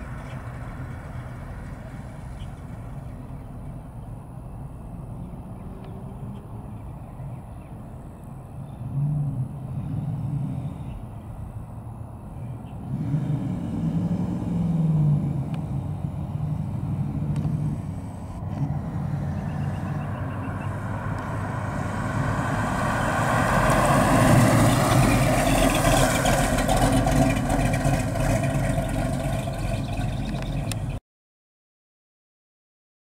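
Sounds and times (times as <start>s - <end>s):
car engine passing by: 0.0s - 4.0s, 4.7s - 11.6s, 12.7s - 31.0s.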